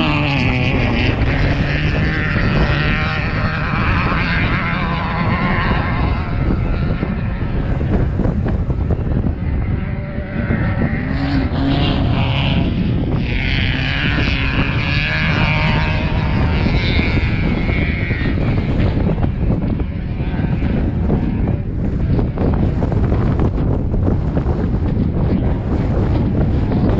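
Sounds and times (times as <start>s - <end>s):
race vehicle engine running: 0.0s - 26.9s
wind buffeting microphone: 0.0s - 26.9s.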